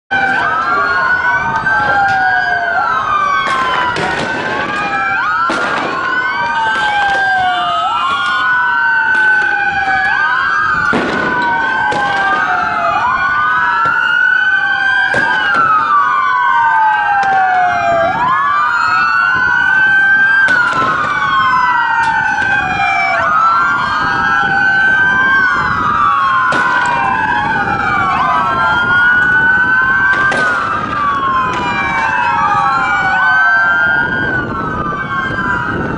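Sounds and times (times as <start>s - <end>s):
police sirens wailing: 0.1s - 35.9s.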